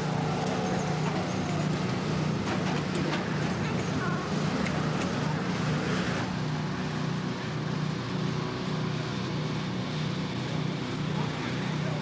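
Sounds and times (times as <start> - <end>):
snowmobile engines running: 0.0 - 12.0.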